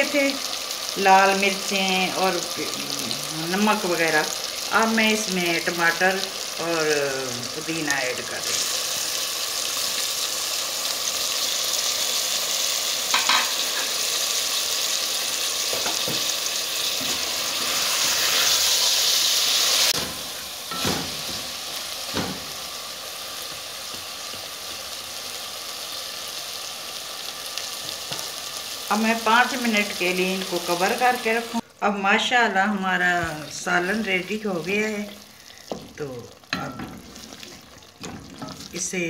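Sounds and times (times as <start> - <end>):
vegetables sizzling in hot oil: 0.0 - 39.0.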